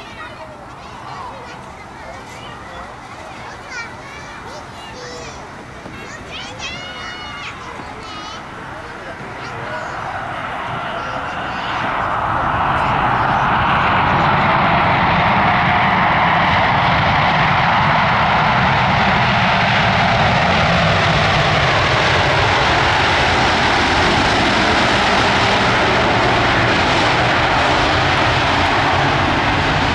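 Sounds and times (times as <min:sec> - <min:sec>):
loud jet engine noise: 0:00.0 - 0:29.9.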